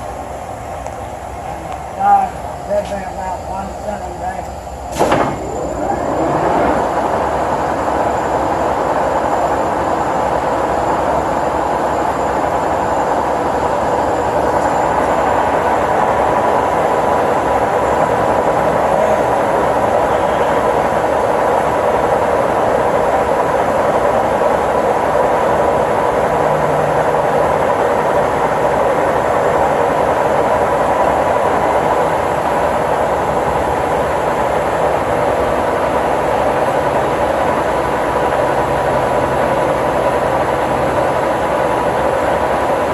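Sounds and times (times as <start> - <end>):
lathe drive and gearing running: 0.0 - 42.9.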